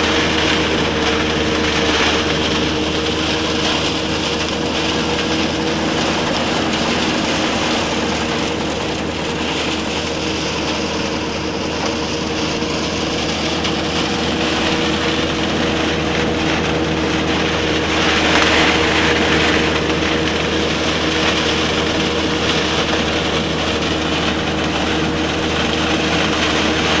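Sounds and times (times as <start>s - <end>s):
machine mechanical drone: 0.0s - 27.0s.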